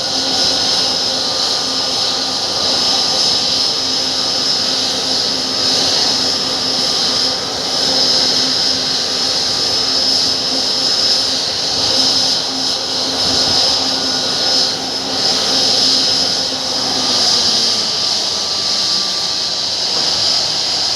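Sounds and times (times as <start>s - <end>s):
jet engines whining: 0.0s - 20.9s.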